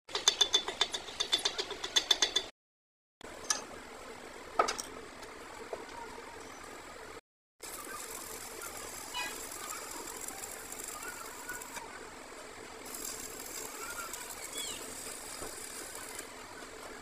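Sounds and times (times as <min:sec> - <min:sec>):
workshop background: 0:00.1 - 0:02.5, 0:03.2 - 0:17.0.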